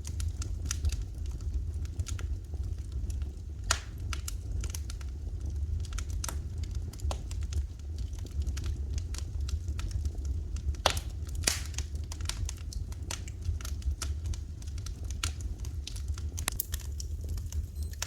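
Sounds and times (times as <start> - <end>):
steady low rumble: 0.0 - 18.0
wood fire crackling: 0.0 - 18.0.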